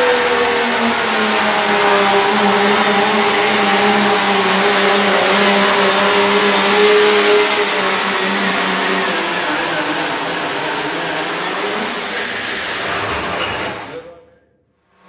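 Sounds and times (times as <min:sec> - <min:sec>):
diesel truck engine running hard: 0:00.0 - 0:12.2.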